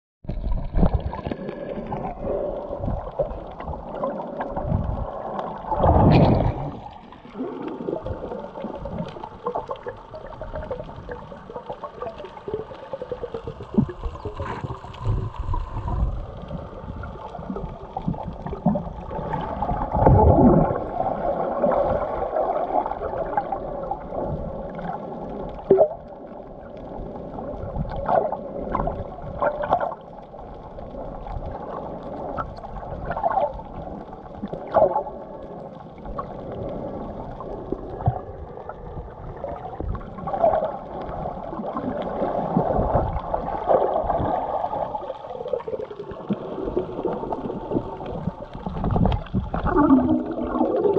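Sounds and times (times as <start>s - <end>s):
water swirling and gurgling underwater: 0.2s - 50.9s.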